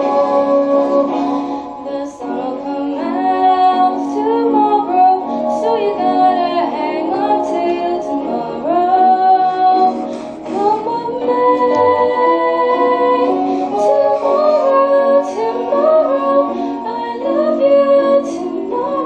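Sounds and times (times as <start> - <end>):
instrumental accompaniment: 0.0 - 19.0
woman singing: 0.0 - 19.0.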